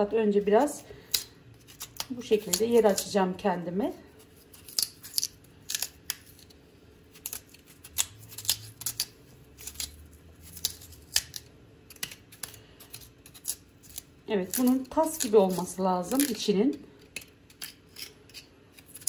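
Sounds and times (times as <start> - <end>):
knife cutting and scraping radish: 0.3 - 19.0.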